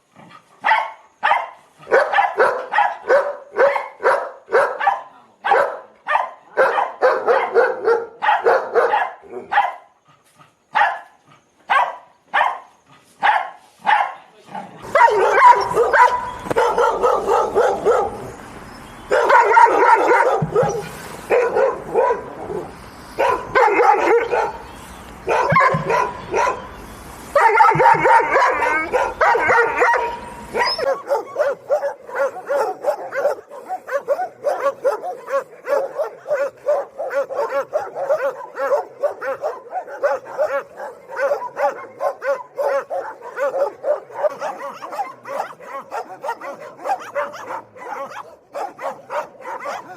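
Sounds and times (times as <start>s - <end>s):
dogs barking angrily: 0.0s - 49.9s.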